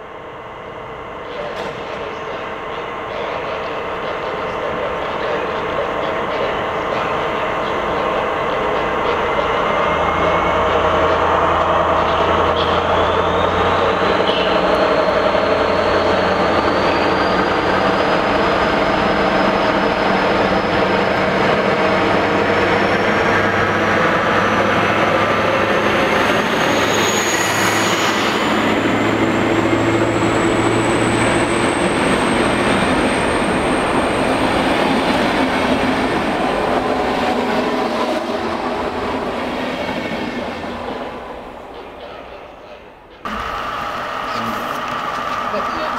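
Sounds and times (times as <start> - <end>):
diesel locomotive engine whining: 0.0 - 45.9
train coaches rolling on rails: 0.0 - 45.9.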